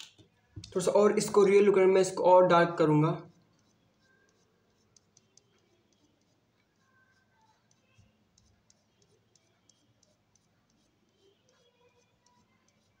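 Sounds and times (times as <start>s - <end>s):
pencil scratching on paper: 0.8s - 13.0s.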